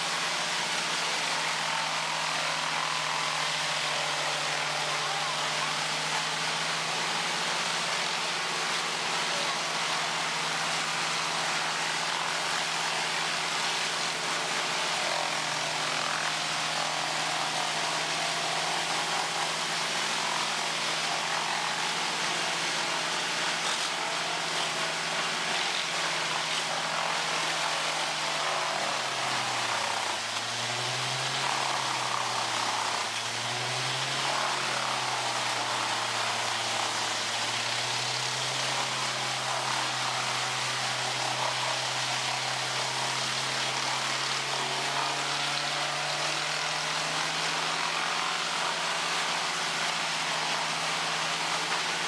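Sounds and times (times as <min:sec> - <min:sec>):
rushing mechanical noise: 0:00.0 - 0:52.0.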